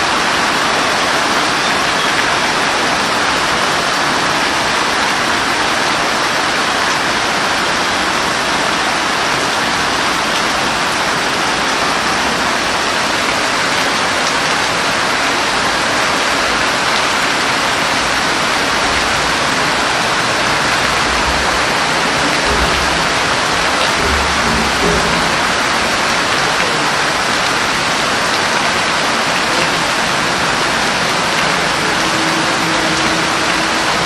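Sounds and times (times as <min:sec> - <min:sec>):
heavy rain falling: 0:00.0 - 0:34.0.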